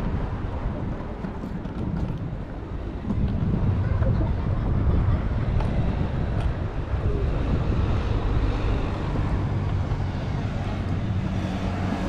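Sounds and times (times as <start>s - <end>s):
road traffic rumble: 0.0s - 12.0s
vehicle engine hum: 0.0s - 12.0s
wind buffeting microphone: 0.0s - 12.0s.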